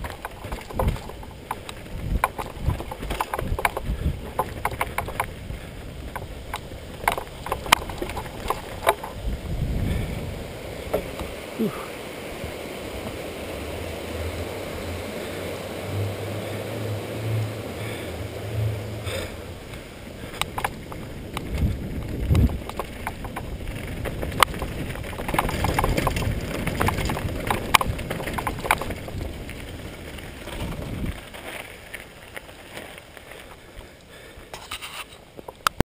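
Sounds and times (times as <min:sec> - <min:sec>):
low rumble on wooden bridge: 0:00.0 - 0:32.0
wind rush on microphone: 0:00.0 - 0:32.0
bike frame and chain rattling: 0:00.0 - 0:35.8
bike tyre noise: 0:00.0 - 0:35.8.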